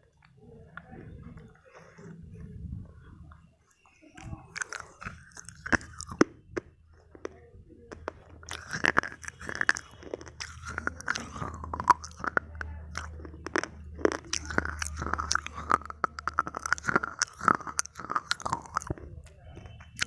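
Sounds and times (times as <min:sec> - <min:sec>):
hard crunches of chewing: 0:03.3 - 0:20.0.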